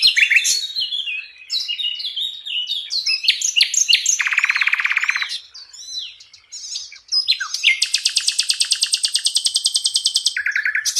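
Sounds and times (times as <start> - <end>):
bird singing with trills: 0.0 - 10.9.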